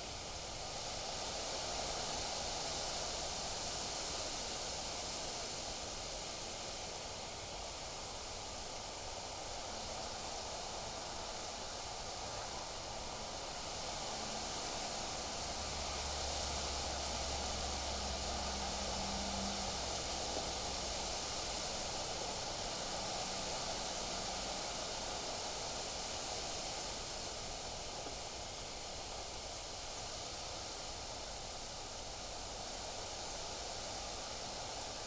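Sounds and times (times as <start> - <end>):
rustling leaves: 0.0 - 35.0
wind through trees: 0.0 - 35.0.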